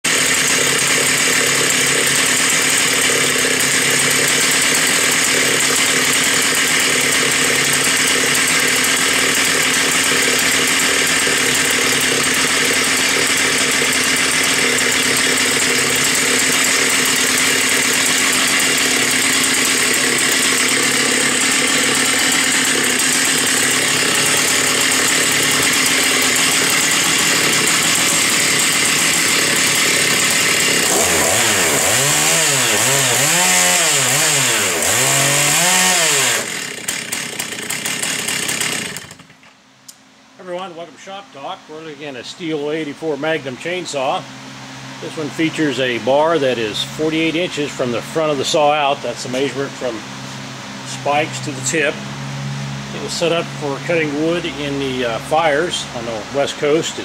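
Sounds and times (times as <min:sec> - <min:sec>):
chainsaw running: 0:00.0 - 0:39.5, 0:45.0 - 0:50.1, 0:50.8 - 0:57.0.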